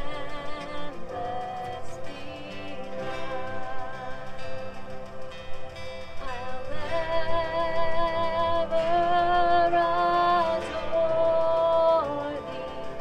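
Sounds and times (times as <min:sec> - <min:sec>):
woman singing: 0:00.0 - 0:05.0, 0:06.2 - 0:13.0
acoustic guitar: 0:00.0 - 0:13.0.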